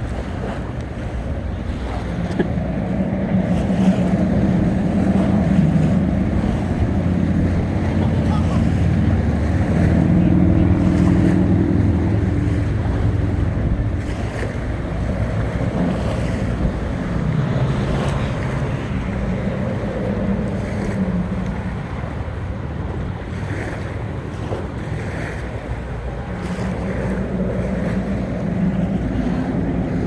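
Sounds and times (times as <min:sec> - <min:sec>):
motorboat engine droning: 0:00.0 - 0:30.0
waves rushing: 0:00.0 - 0:30.0
wind buffeting microphone: 0:00.0 - 0:30.0.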